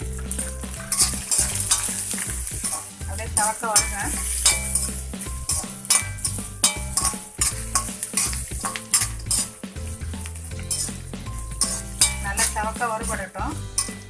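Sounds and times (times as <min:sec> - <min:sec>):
oil sizzling: 0:00.0 - 0:14.0
spatula scraping a metal pan: 0:00.2 - 0:12.8.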